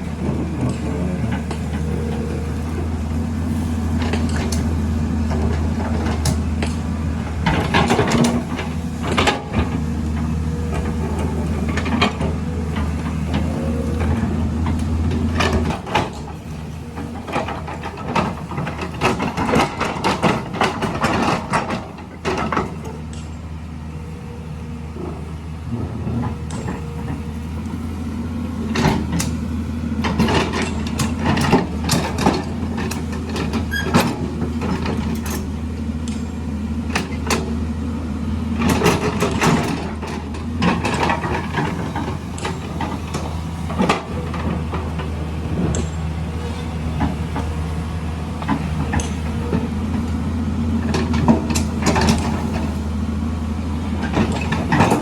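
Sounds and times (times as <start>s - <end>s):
clanks and rattles: 0.0s - 23.5s, 24.9s - 27.8s, 28.6s - 37.8s, 38.5s - 55.0s
diesel earthmover running: 0.0s - 55.0s.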